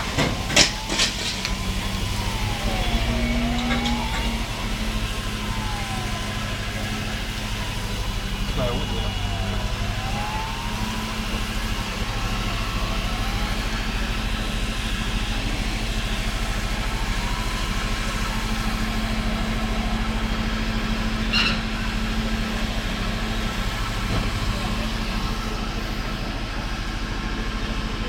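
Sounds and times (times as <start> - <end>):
fire engine motor running: 0.0 - 28.0
siren wailing: 0.0 - 28.0.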